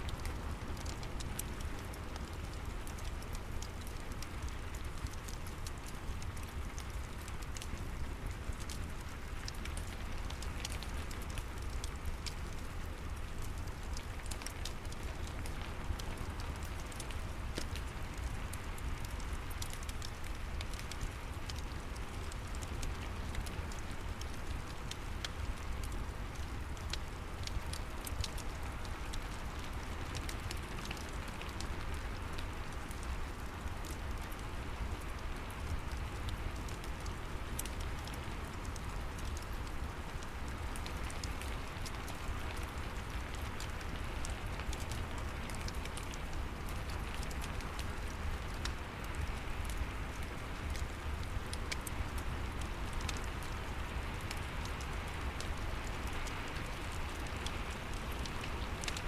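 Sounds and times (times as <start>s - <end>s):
steady rain: 0.0s - 59.0s
fireplace crackling: 0.2s - 59.0s.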